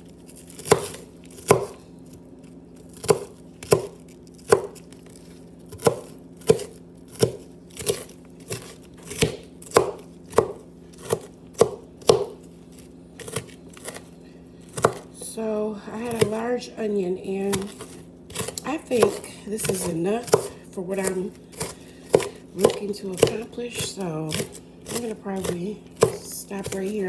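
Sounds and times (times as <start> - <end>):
knife chopping on cutting board: 0.6 - 1.8, 2.9 - 4.8, 5.7 - 14.1, 14.7 - 15.1, 16.0 - 16.4, 17.4 - 27.0.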